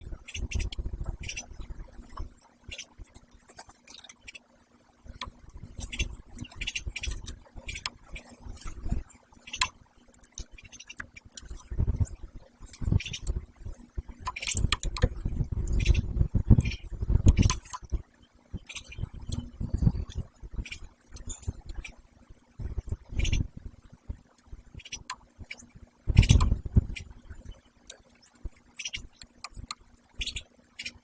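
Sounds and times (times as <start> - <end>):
woodpeckers pecking and knocking: 0.0 - 4.5, 5.1 - 31.0.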